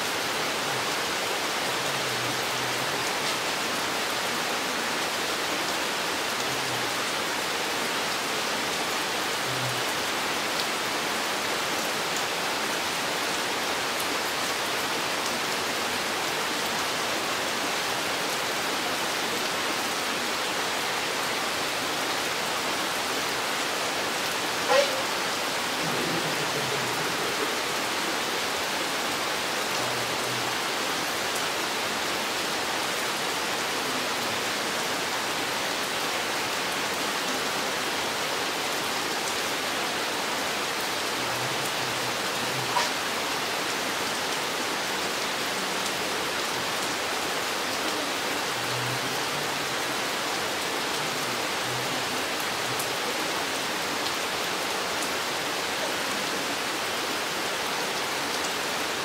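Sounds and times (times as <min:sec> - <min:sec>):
rain falling in forest: 0:00.0 - 0:59.0.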